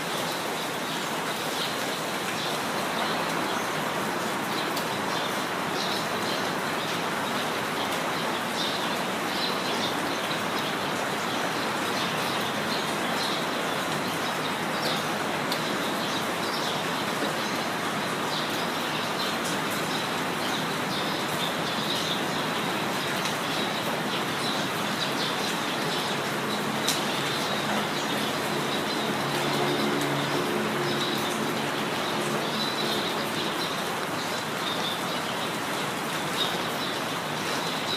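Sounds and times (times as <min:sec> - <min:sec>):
steady rain: 0:00.0 - 0:37.9
birds chirping: 0:04.7 - 0:37.9.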